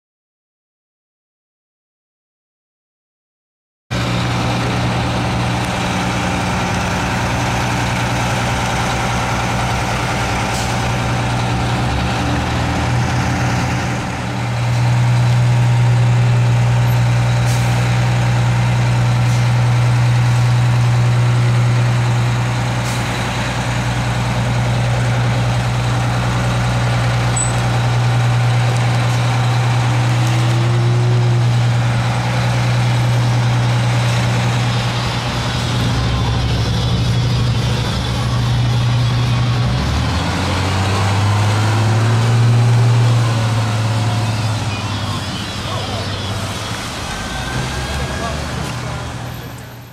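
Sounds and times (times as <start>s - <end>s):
bus diesel engine idling: 3.9s - 49.9s.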